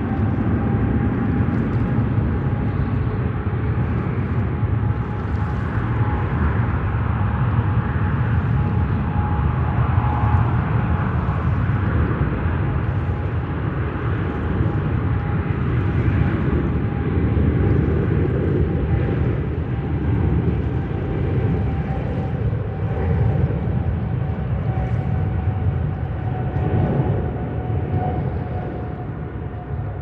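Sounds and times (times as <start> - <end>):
faint engine whine: 0.0 - 30.0
jet engine rumble: 0.0 - 30.0.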